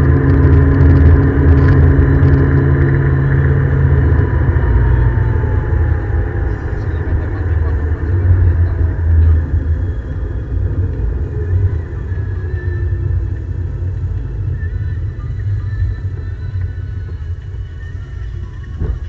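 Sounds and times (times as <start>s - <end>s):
car engine inside cabin: 0.0s - 19.0s
road rumble: 0.0s - 19.0s.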